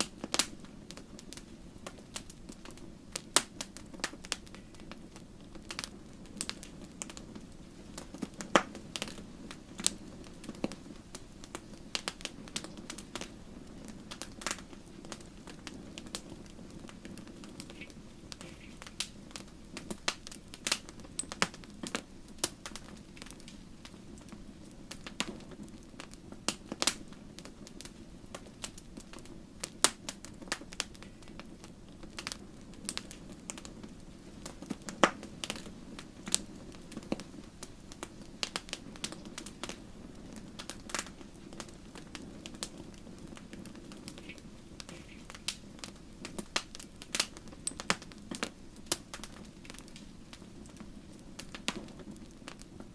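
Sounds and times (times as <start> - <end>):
logs crackling and popping: 0.0 - 52.9
low rush of flame: 0.0 - 52.9.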